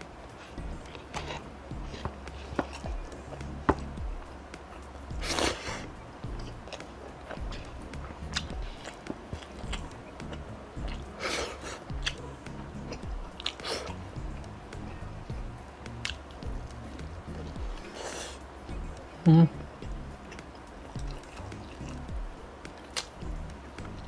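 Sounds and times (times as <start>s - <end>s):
person chewing food: 0.3s - 24.0s.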